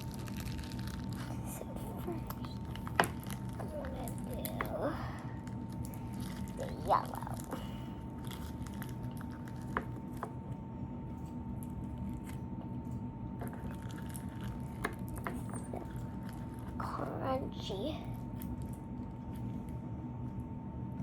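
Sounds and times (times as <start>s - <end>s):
small crackles and clicks: 0.0s - 16.9s, 18.0s - 21.0s
crunchy slime squished by hand: 0.0s - 17.4s
steady background hum: 0.0s - 21.0s.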